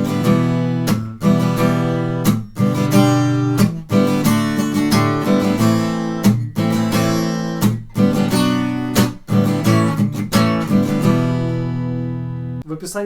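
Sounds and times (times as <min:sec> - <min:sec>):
acoustic guitar strumming: 0:00.0 - 0:12.6.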